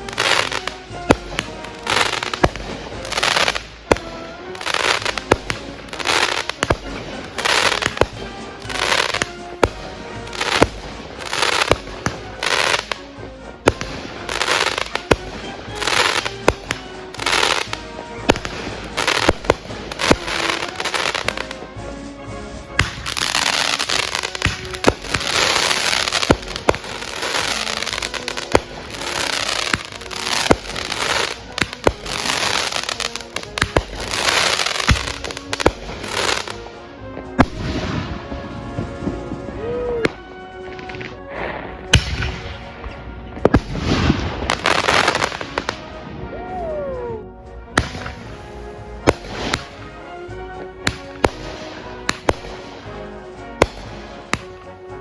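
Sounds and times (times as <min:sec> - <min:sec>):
firework bangs: 0:00.0 - 0:46.3, 0:47.6 - 0:55.0
firework crackling: 0:00.0 - 0:55.0.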